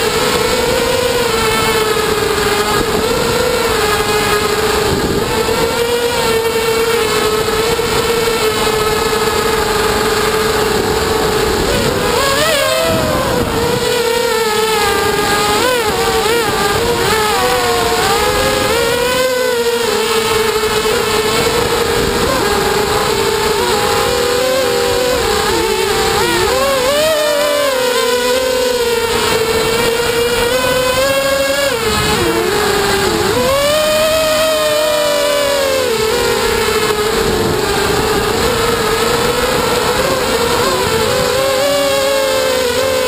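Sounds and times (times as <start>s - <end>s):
quadcopter motors whining: 0.0s - 43.0s
wind noise: 0.0s - 43.0s.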